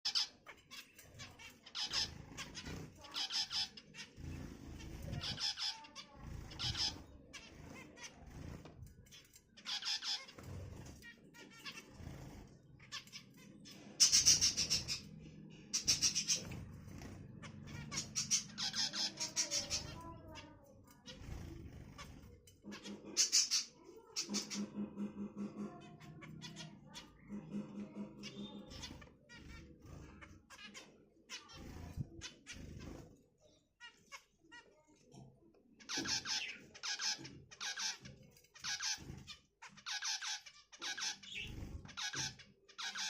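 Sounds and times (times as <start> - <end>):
finches chirping: 0.0 - 24.8, 25.8 - 34.1, 35.8 - 43.0.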